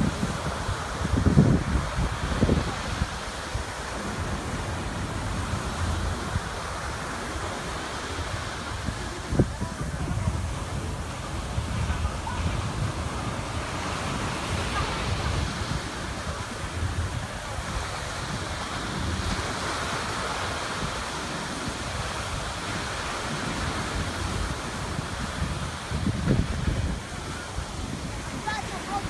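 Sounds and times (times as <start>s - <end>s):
small waves washing on shore: 0.0s - 29.0s
wind buffeting microphone: 0.0s - 29.0s.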